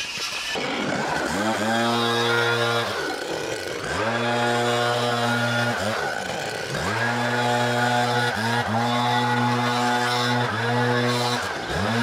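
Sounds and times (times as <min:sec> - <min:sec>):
leaf blower engine revving: 0:00.1 - 0:12.0.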